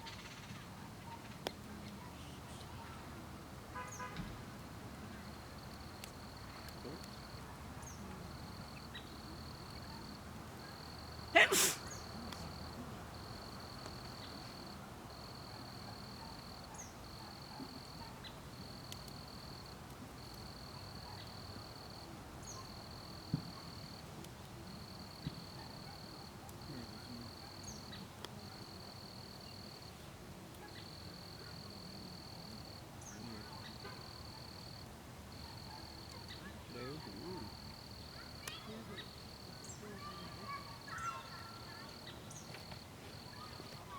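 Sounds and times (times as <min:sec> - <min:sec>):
campfire crackling: 0:00.7 - 0:43.9.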